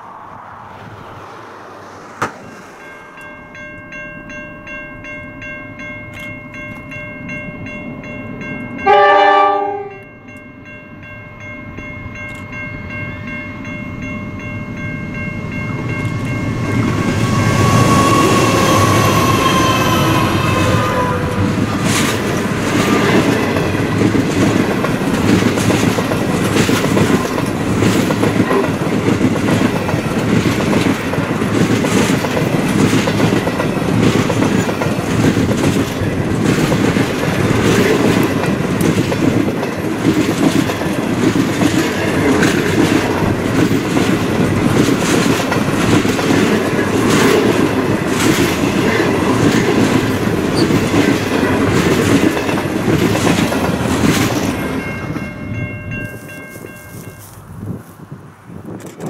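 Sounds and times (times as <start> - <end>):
train wheels rumbling on rail: 0.0 - 3.9, 12.1 - 59.0.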